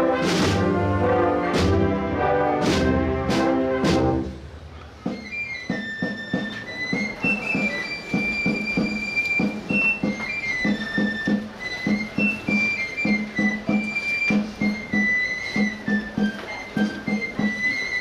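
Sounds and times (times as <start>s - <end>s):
brass band playing a march: 0.0s - 18.0s.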